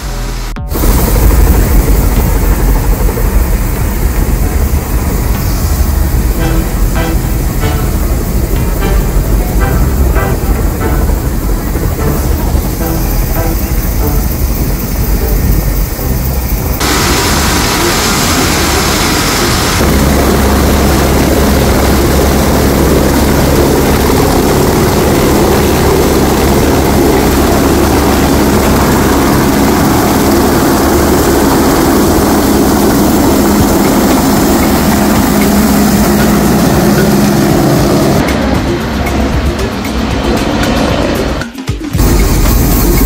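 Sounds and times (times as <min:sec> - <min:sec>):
helicopter turbine whine and rotor: 0:00.0 - 0:43.0.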